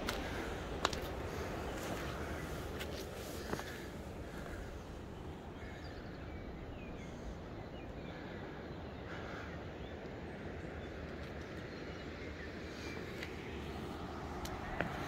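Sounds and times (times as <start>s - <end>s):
faint bird calls: 0.0s - 13.6s
outdoor background noise: 0.0s - 15.0s.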